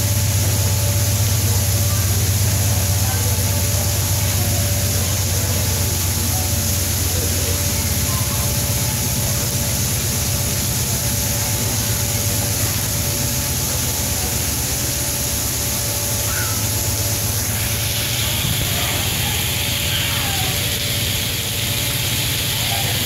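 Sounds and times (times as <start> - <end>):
train cars rumbling past: 0.0 - 23.0.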